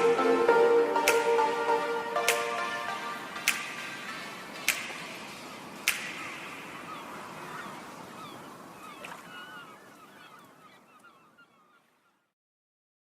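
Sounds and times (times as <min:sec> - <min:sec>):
birds chirping: 0:00.0 - 0:12.3
faint background hiss: 0:00.0 - 0:12.3.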